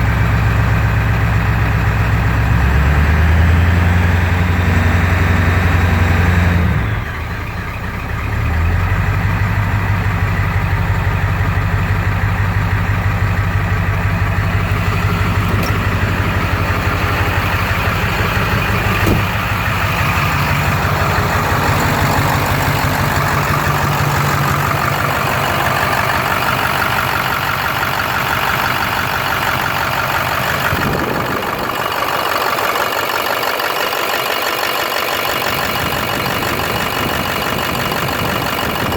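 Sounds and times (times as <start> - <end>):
small engine rough idle: 0.0 - 38.9.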